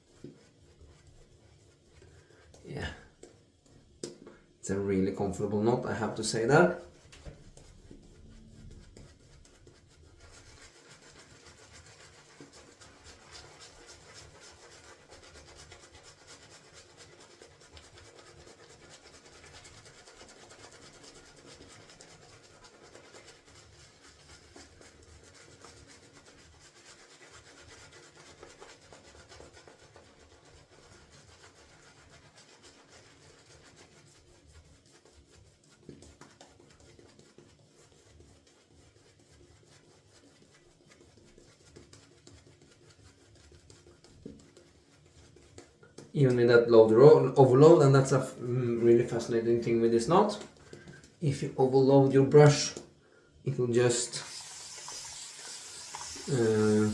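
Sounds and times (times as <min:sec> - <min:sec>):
shaving brush swishing lather: 0:00.0 - 0:56.9.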